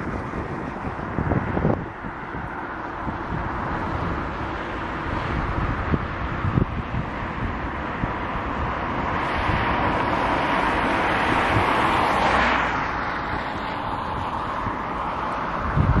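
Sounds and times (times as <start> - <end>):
traffic noise: 0.0 - 16.0
vehicle passing: 0.0 - 16.0
wind buffeting microphone: 0.0 - 16.0.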